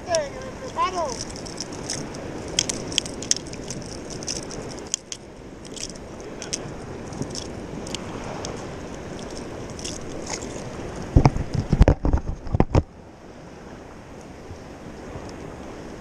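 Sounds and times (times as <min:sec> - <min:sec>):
small waves washing: 0:00.0 - 0:16.0
wind noise: 0:00.0 - 0:16.0.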